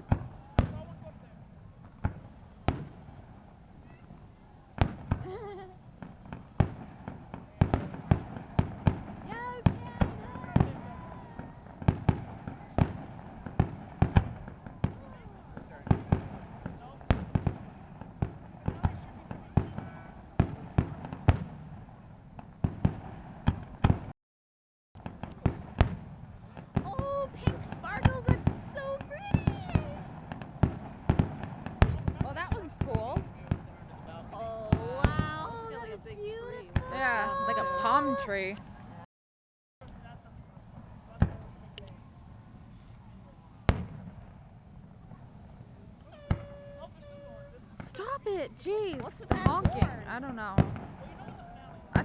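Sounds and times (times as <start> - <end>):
fireworks bursting: 0.0 - 24.1, 25.0 - 39.1, 39.8 - 52.0.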